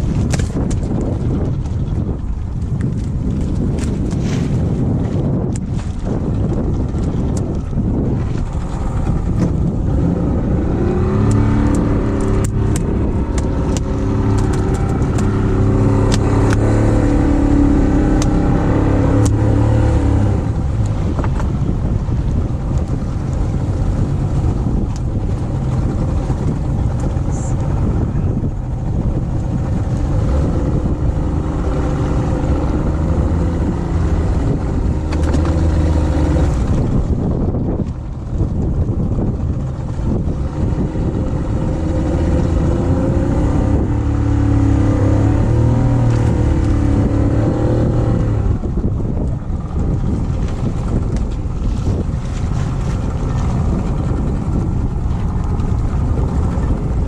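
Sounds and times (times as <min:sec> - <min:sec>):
boat motor running: 0:00.0 - 0:57.0
wind on microphone: 0:00.0 - 0:57.0.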